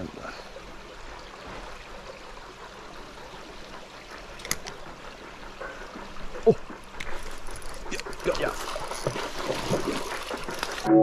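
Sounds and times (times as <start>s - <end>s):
creek water trickling: 0.0s - 10.9s.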